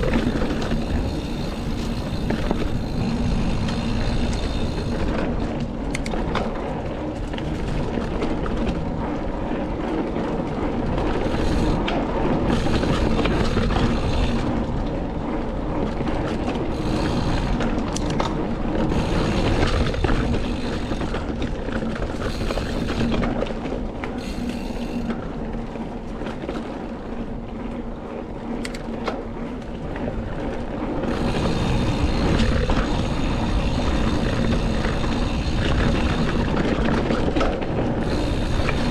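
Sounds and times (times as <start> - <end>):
bike clicks and rattles: 0.0 - 38.9
bike tyre noise: 0.0 - 38.9
wind rumble on microphone: 0.0 - 38.9.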